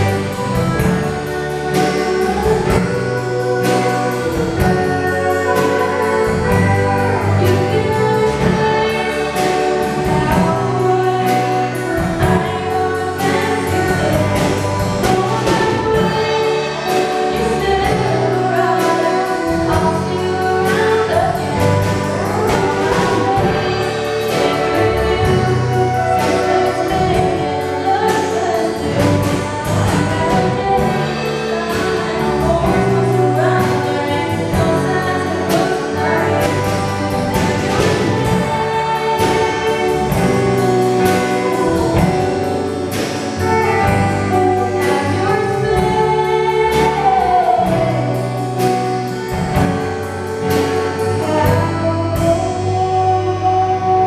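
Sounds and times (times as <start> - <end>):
acoustic guitar: 0.0 - 54.0
electric bass: 0.0 - 54.0
woman singing: 0.0 - 54.0.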